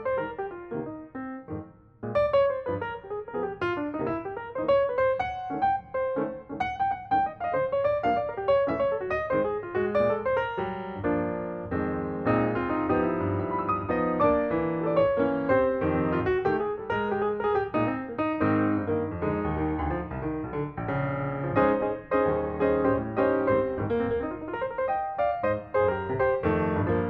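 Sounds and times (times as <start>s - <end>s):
piano playing: 0.0s - 27.0s.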